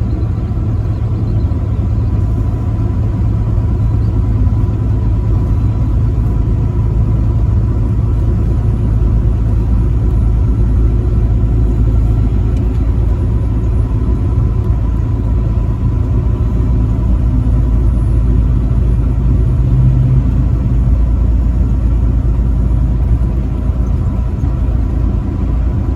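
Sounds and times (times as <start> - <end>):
truck engine and road rumble: 0.0 - 25.9.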